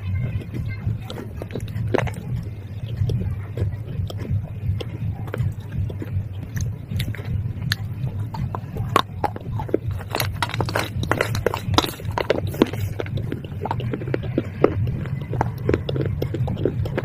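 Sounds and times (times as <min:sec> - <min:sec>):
crunching clay pot pieces: 0:00.0 - 0:17.0
steady low hum: 0:00.0 - 0:17.0.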